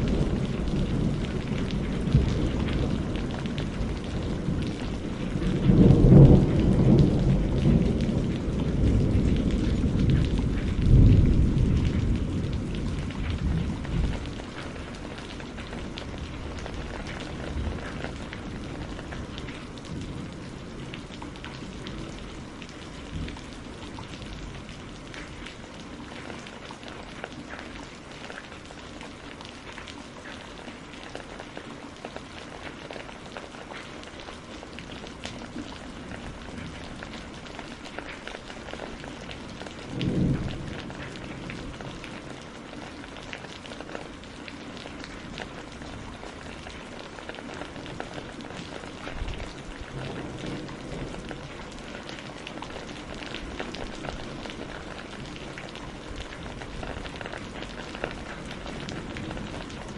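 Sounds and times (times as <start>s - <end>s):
rain on a greenhouse: 0.0s - 59.9s.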